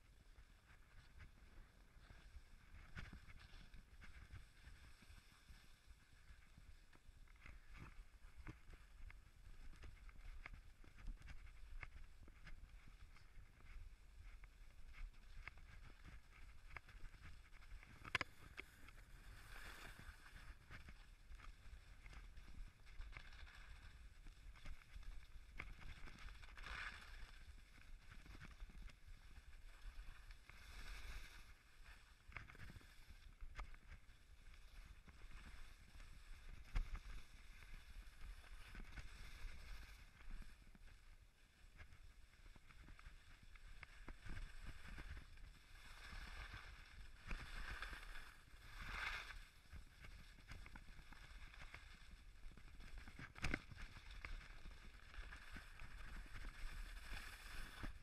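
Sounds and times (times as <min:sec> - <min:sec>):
skis sliding over snow: 0:00.0 - 0:58.0.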